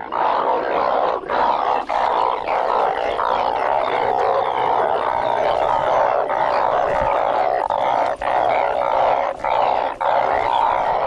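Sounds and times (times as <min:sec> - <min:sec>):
frogs chorus calling: 0:00.0 - 0:11.0.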